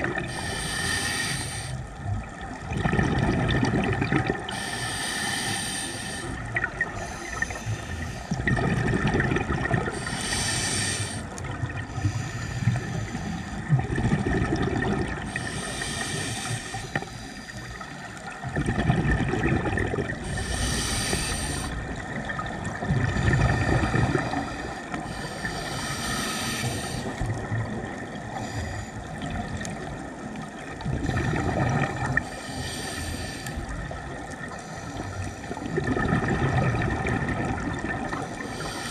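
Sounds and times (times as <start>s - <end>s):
scuba regulator exhale bubbles: 0.0s - 1.8s, 2.5s - 38.9s
low rumbling of water: 0.0s - 38.9s.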